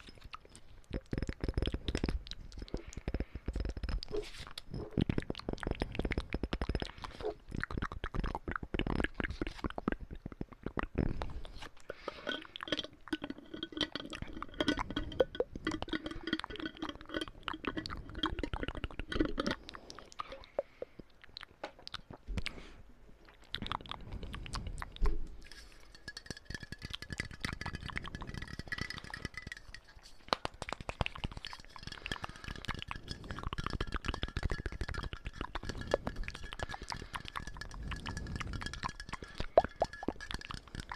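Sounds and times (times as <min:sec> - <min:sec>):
mouth clicks and crunchy taps: 0:00.0 - 0:40.9.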